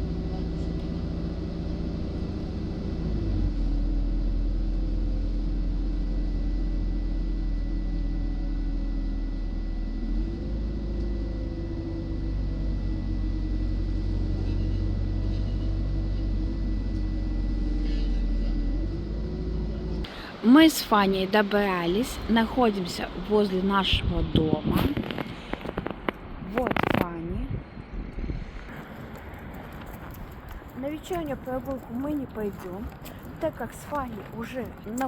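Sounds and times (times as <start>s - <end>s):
city bus engine rumble: 0.0s - 35.0s.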